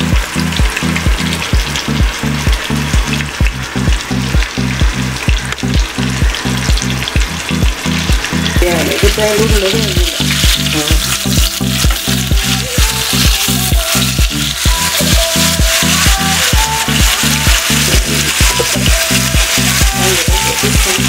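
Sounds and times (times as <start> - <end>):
background music with beat: 0.0 - 21.0
chicken sizzling in oil: 0.0 - 21.0.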